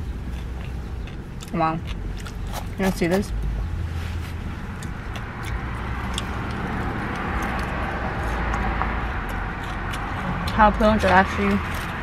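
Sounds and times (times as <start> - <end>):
car engine and ventilation hum: 0.0 - 12.0.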